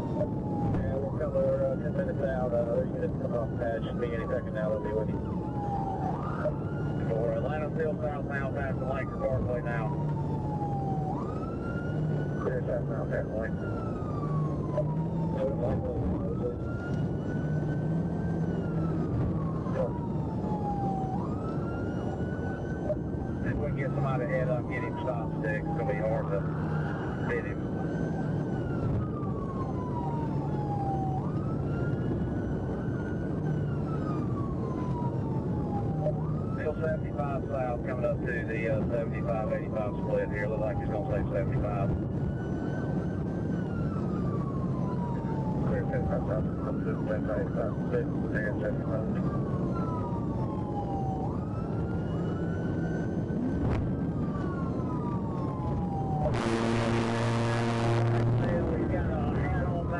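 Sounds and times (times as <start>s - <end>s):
car engine drone and road noise: 0.0s - 59.9s
police siren wailing: 0.0s - 59.9s.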